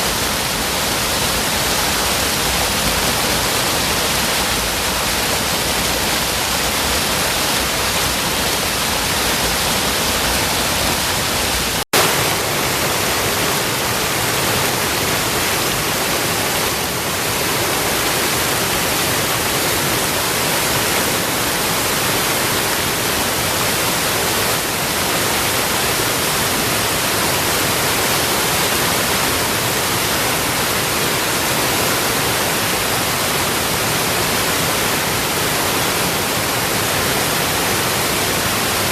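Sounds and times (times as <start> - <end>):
stream spilling over a drop: 0.0 - 38.9.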